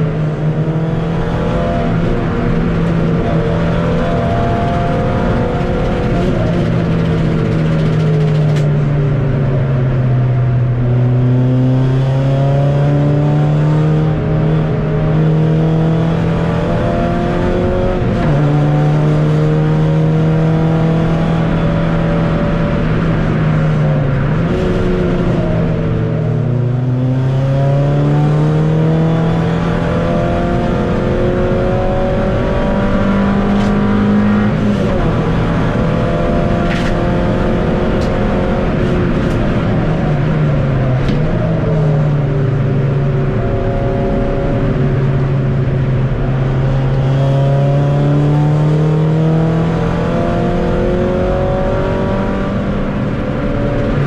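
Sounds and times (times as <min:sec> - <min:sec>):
tyre and road noise on wet track: 0:00.0 - 0:27.0, 0:27.8 - 0:54.0
race car engine from inside cabin: 0:00.0 - 0:54.0.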